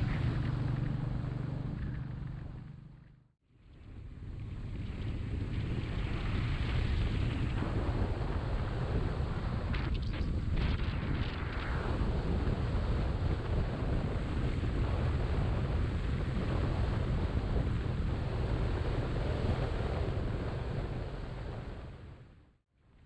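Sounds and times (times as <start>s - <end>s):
wind buffeting microphone: 0.0s - 2.8s, 3.8s - 22.3s.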